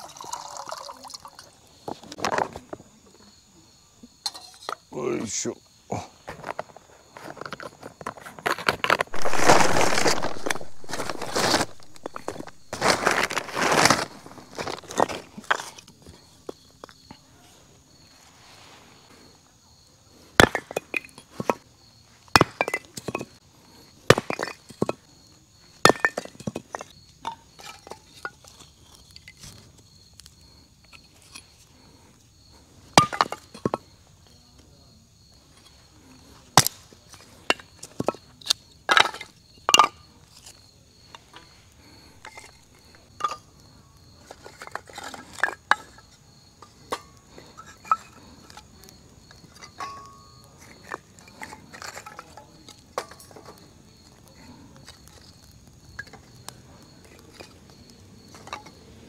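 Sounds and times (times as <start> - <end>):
camp gear clinking and knocking: 4.1 - 5.4, 6.2 - 17.3, 20.4 - 31.8, 32.8 - 34.6, 35.4 - 54.2, 54.8 - 58.9.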